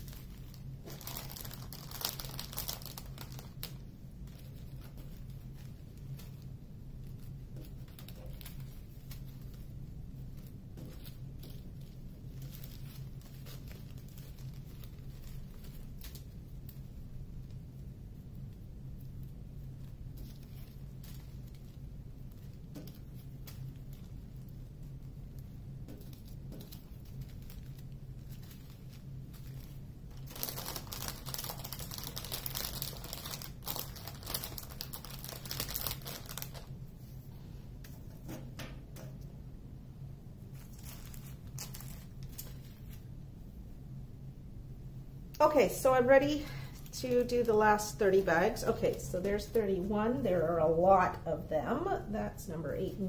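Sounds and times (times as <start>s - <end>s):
plastic bags rustling: 0.0s - 17.6s, 19.2s - 38.2s, 40.4s - 43.2s, 45.6s - 50.5s.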